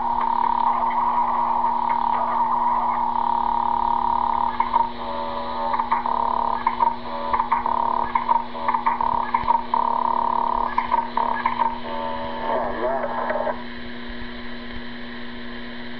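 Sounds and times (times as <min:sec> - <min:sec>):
choppy stuttering tone: 0:00.0 - 0:13.6
stepped electronic tone: 0:00.0 - 0:13.6
rough electronic tone: 0:00.0 - 0:14.0
low hum: 0:00.0 - 0:15.9.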